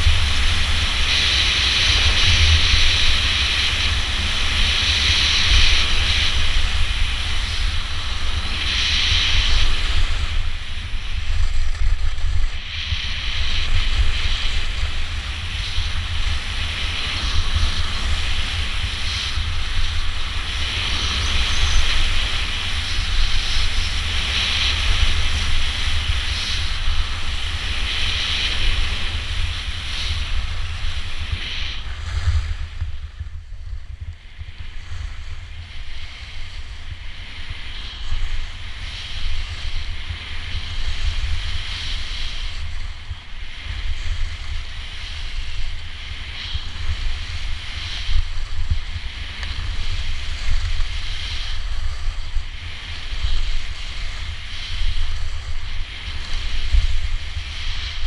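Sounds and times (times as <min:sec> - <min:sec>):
skis scraping over snow: 0:00.0 - 0:58.0
wind rumble on microphone: 0:00.0 - 0:58.0.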